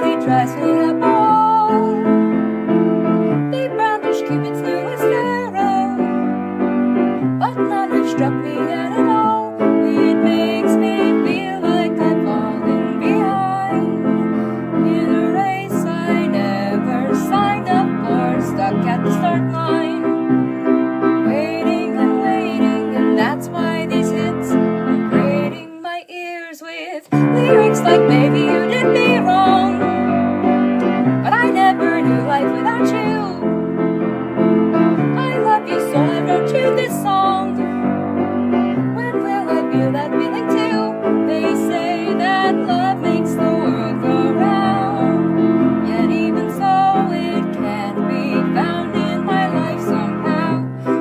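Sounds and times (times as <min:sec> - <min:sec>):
piano-led instrumental music: 0:00.0 - 0:25.6, 0:27.1 - 0:51.0.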